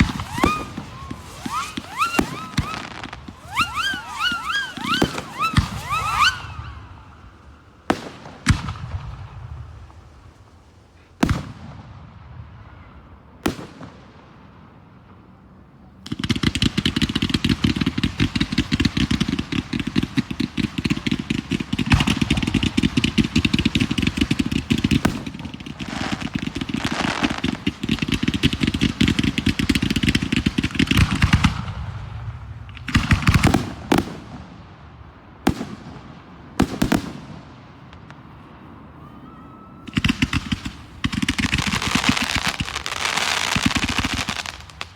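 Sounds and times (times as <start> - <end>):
fireworks crackling and popping: 0.0 - 11.8, 13.4 - 14.2, 16.1 - 38.9, 39.8 - 44.9
fireworks bangs: 0.0 - 15.1, 16.1 - 44.9.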